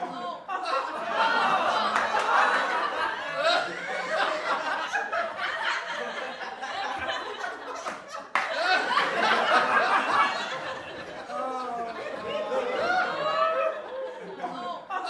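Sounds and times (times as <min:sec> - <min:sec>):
group of people laughing: 0:00.0 - 0:15.0.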